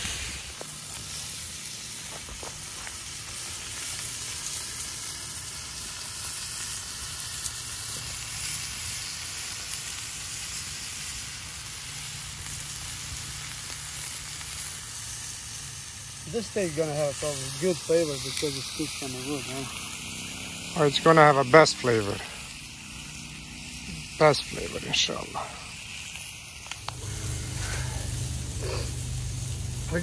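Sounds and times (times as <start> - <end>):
steaks sizzling in a pan: 0.0 - 30.0.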